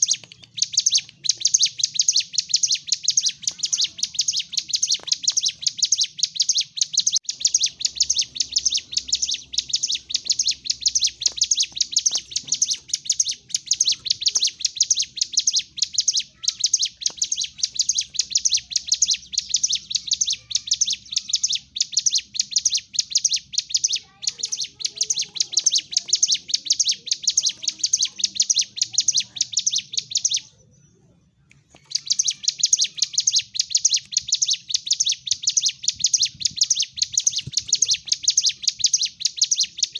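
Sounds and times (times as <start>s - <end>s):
bird chattering high chirps: 0.0s - 39.9s.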